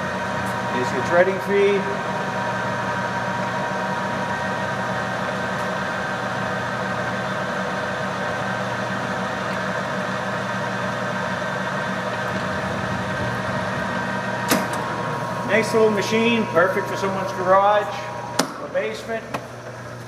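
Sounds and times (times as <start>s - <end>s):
lathe running with steady hum: 0.0s - 20.0s.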